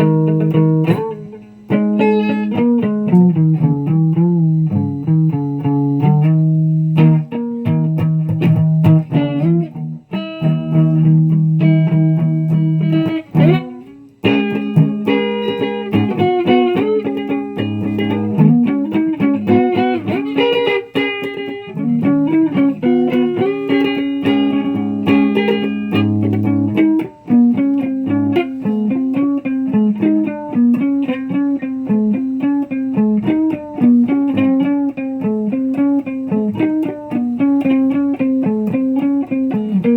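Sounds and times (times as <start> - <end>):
guitar plucking: 0.0 - 39.9.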